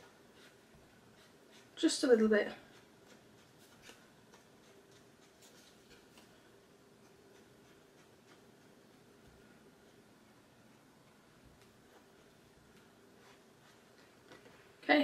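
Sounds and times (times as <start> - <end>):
sponge dabbing on card: 0.0 - 14.7.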